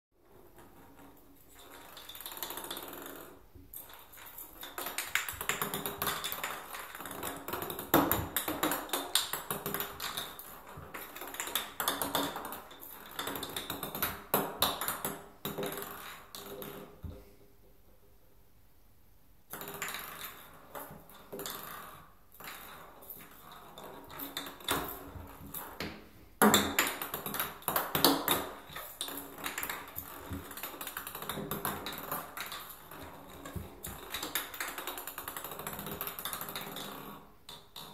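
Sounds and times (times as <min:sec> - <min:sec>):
ping pong ball bouncing in bathtub: 0:00.3 - 0:17.8, 0:19.5 - 0:37.9.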